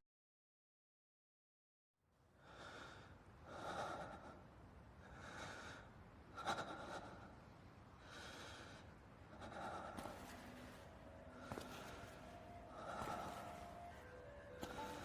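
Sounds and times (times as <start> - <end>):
person breathing heavily: 2.4 - 15.0.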